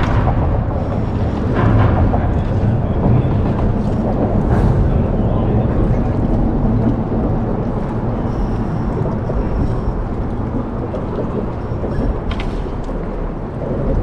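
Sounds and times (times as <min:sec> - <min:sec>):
boat low rumbling: 0:00.0 - 0:14.0.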